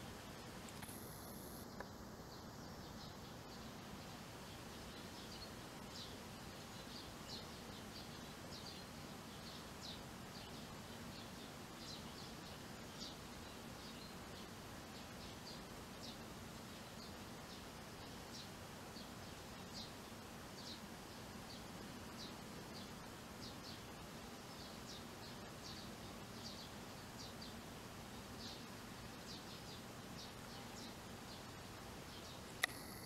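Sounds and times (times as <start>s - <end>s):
steady outdoor hiss: 0.0s - 33.0s
sparrows chirping: 0.4s - 33.0s.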